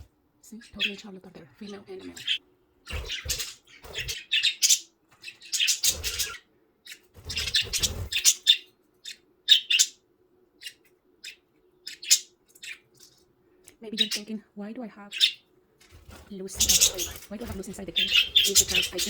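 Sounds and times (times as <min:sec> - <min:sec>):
budgerigars chirping: 0:00.0 - 0:10.0, 0:10.6 - 0:13.3, 0:13.9 - 0:14.4, 0:15.1 - 0:15.5, 0:16.5 - 0:19.0.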